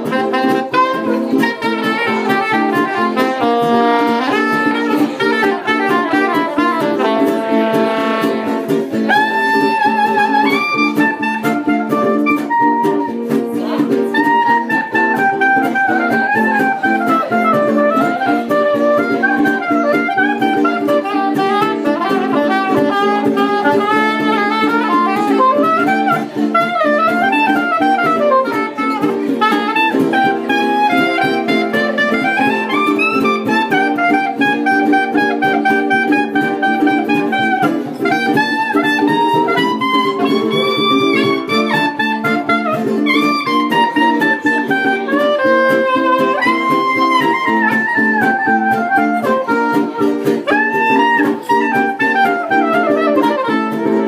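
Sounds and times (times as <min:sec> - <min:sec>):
soprano saxophone melody: 0:00.0 - 0:13.4, 0:14.0 - 0:54.0
strummed acoustic string chords: 0:00.0 - 0:48.4.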